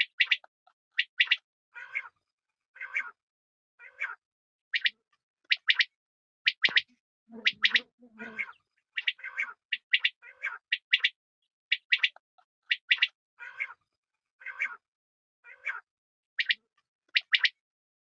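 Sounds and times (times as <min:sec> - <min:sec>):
quail calling: 0:00.0 - 0:02.2, 0:02.8 - 0:03.2, 0:03.8 - 0:05.9, 0:06.5 - 0:13.8, 0:14.4 - 0:14.8, 0:15.4 - 0:17.6.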